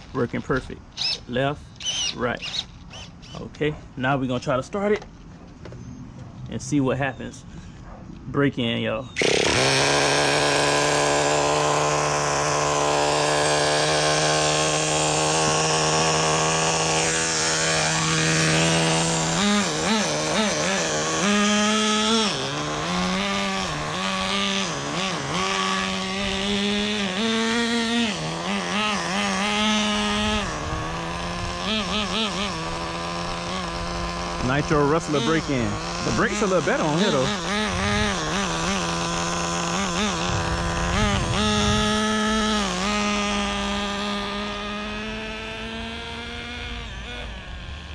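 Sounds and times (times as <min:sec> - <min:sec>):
small nitro engine revving: 0:00.0 - 0:04.6, 0:09.1 - 0:47.9.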